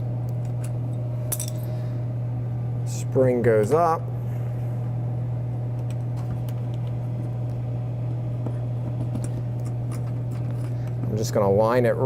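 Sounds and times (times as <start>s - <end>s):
vending machine humming: 0.0s - 12.0s.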